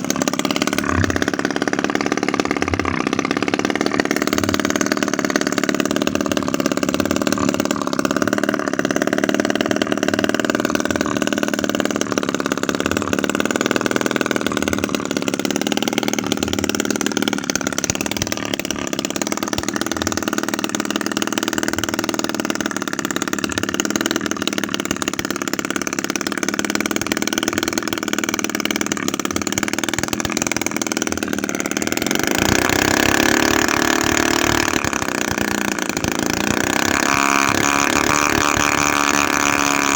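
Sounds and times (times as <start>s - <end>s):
small two-stroke engine running: 0.0s - 39.9s.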